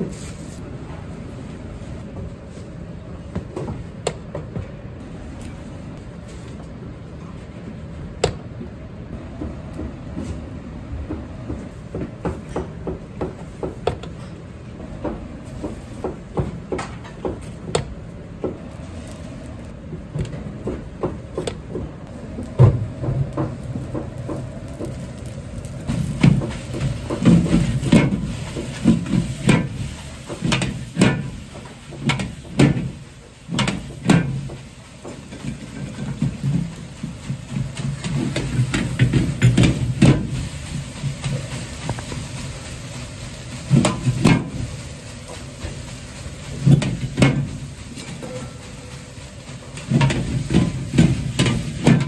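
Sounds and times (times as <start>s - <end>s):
low kitchen rumble: 0.0s - 52.0s.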